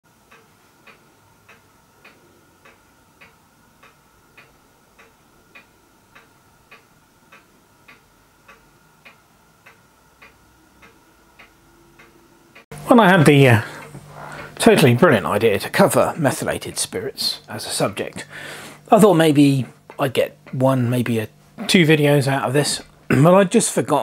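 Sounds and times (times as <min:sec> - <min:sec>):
clock ticking: 0:00.1 - 0:24.0.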